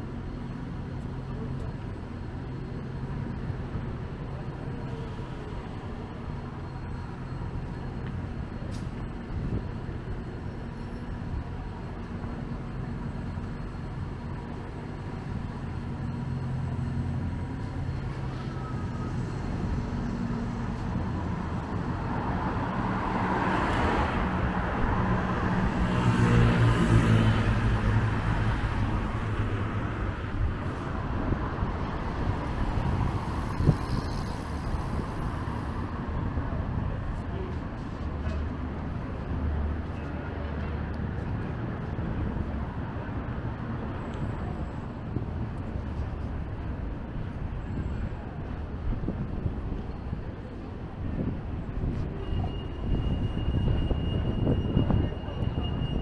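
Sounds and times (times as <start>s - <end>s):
car and bus engines rumbling: 0.0s - 56.0s.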